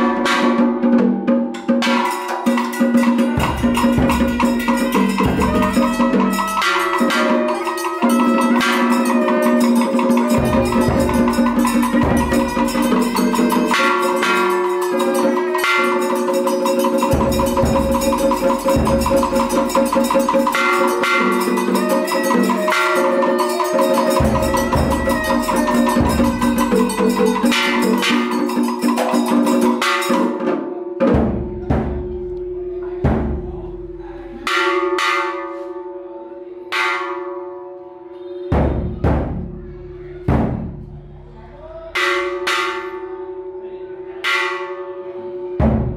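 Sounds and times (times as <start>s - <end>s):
drums and gongs beaten: 0.0s - 35.4s, 38.4s - 41.3s, 41.9s - 43.1s, 44.2s - 45.9s.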